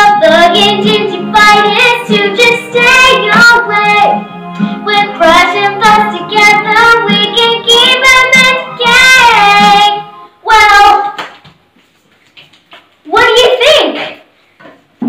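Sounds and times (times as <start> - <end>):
girl singing show tune: 0.0 - 11.2, 13.1 - 14.2.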